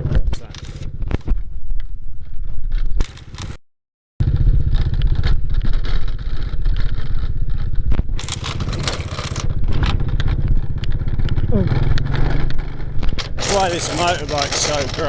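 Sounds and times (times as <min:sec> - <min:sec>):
motorbike engine running: 0:00.0 - 0:03.6, 0:04.2 - 0:15.0.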